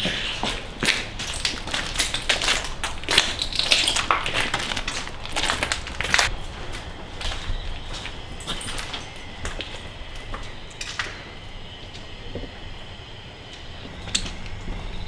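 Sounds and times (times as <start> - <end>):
footsteps crunching over debris: 0.0 - 15.0.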